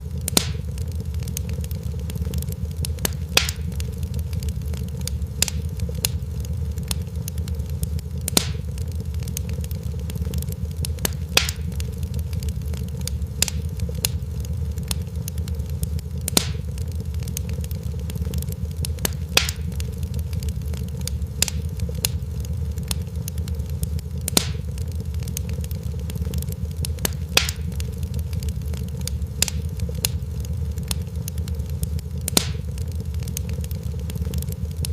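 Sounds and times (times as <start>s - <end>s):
low rumble of burning: 0.0s - 34.9s
wood fire crackling and popping: 0.0s - 34.9s.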